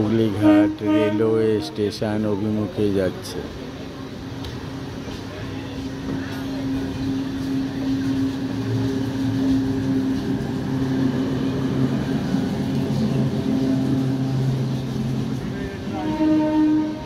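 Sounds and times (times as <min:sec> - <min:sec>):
train electric hum: 0:00.0 - 0:17.0
train wheels on track: 0:00.0 - 0:17.0.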